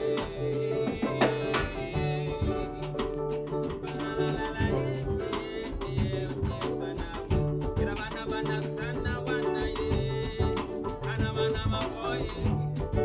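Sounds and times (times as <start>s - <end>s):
acoustic guitars: 0.0s - 13.0s
bass line: 0.0s - 13.0s
drum kit hits: 0.0s - 13.0s.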